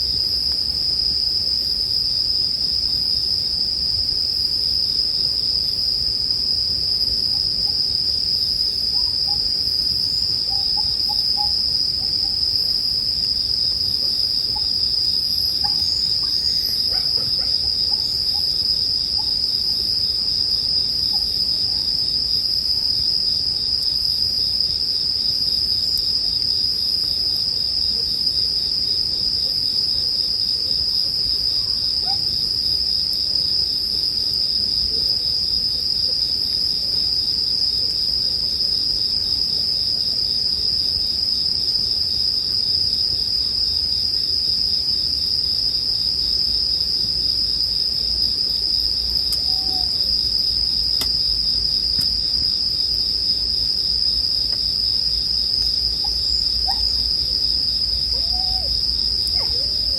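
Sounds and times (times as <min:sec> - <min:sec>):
crickets chirping chorus: 0:00.0 - 0:59.9.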